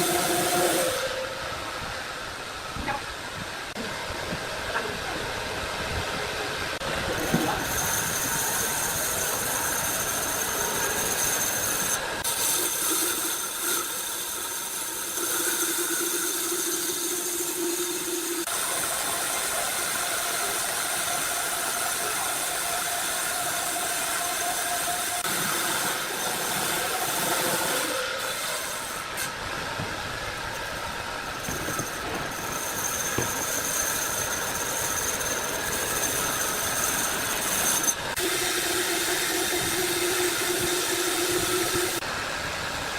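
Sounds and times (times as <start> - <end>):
saw cutting through log: 0.0 - 1.2, 7.0 - 29.4, 30.7 - 42.1.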